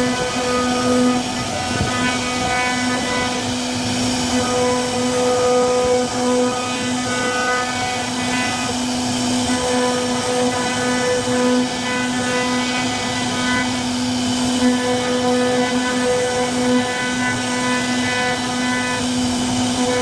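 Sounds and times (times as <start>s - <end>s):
hiss of wood cutting: 0.0s - 20.0s
router spindle whine: 0.0s - 20.0s.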